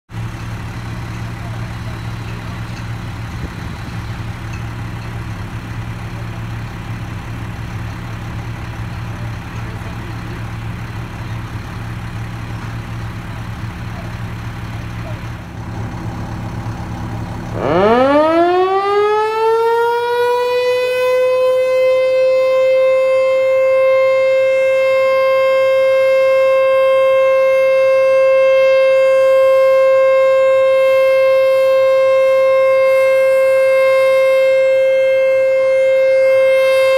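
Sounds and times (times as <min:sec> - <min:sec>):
rotating warning siren: 0:00.1 - 0:36.9.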